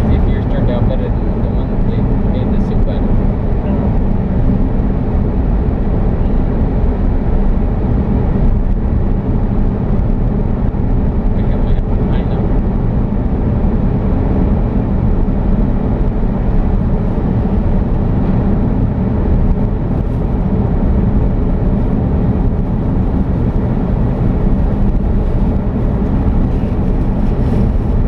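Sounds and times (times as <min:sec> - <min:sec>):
road noise: 0:00.0 - 0:28.0
wind noise: 0:00.0 - 0:28.0.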